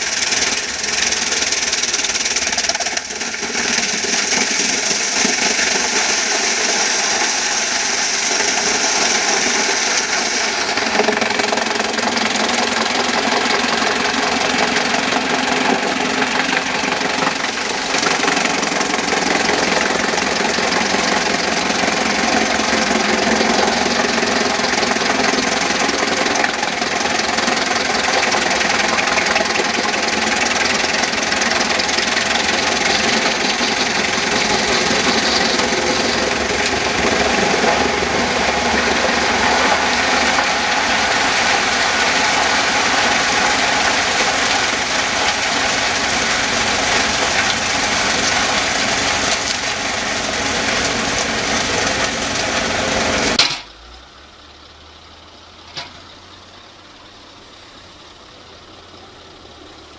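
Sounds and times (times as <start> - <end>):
dense mechanical clatter: 0.0 - 54.8
engine running: 0.0 - 59.9.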